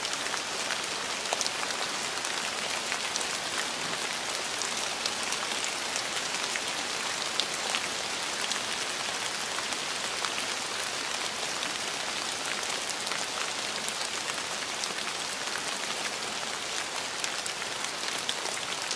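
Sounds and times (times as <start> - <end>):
steady rain with drop ticks: 0.0 - 18.9.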